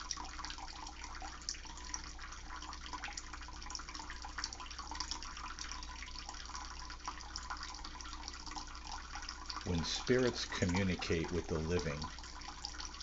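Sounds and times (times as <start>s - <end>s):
low steady hum: 0.0s - 13.0s
water running from a tap: 0.0s - 13.0s.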